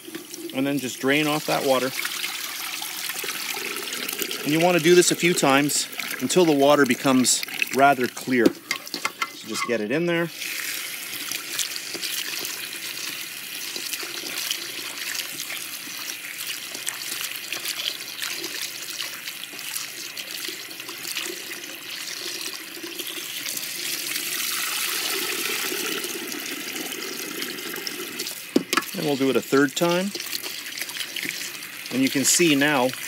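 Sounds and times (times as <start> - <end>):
water poured into sink: 0.0 - 9.5, 10.3 - 33.0
tap water running into bowl: 0.0 - 33.0.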